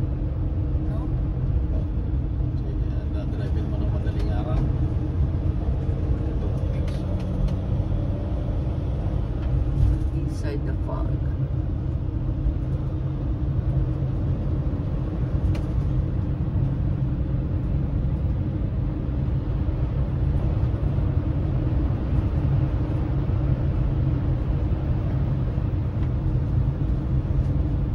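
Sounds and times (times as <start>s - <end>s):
engine and road noise rumble: 0.0s - 27.9s.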